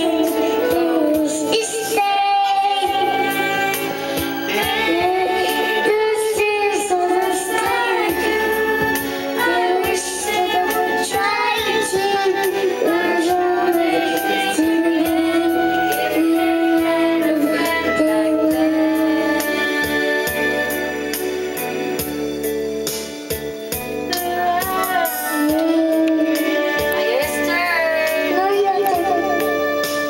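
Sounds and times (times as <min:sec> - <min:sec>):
toddler singing into microphone: 0:00.0 - 0:20.4, 0:24.2 - 0:29.6
karaoke backing music with singing: 0:00.0 - 0:30.0.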